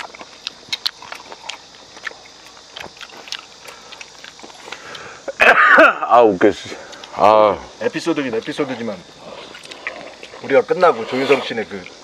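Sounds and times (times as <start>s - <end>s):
people chewing: 0.0s - 5.5s, 6.6s - 7.2s, 8.3s - 12.0s.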